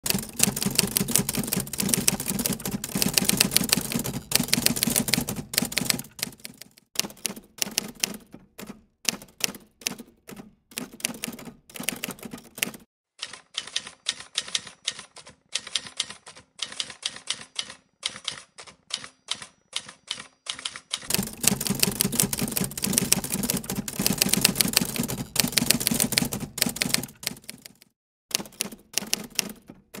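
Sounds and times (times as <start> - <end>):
typewriter keys clacking: 0.0 - 30.0.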